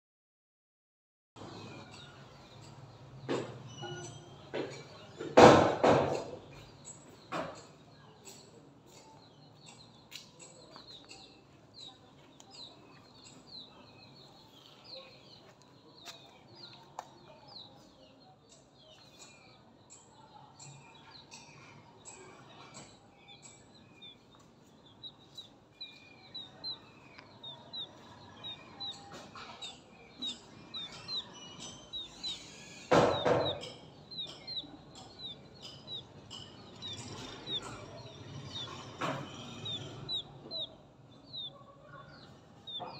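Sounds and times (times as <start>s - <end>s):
chick peeping: 1.4s - 42.9s.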